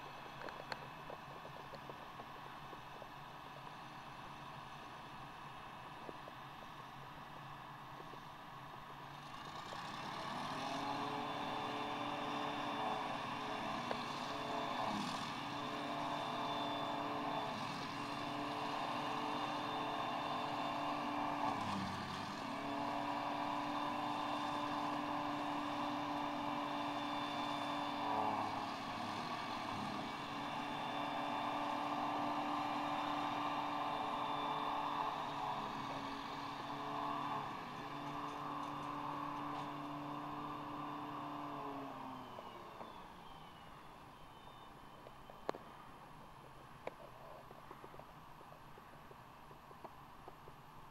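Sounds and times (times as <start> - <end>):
forage harvester machine drone: 0.0 - 49.6.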